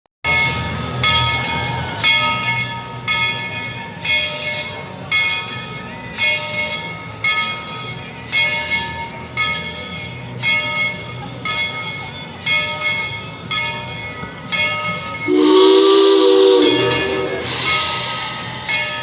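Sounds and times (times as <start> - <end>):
locomotive bell ringing: 0.3 - 19.0
low train rumble: 0.3 - 19.0.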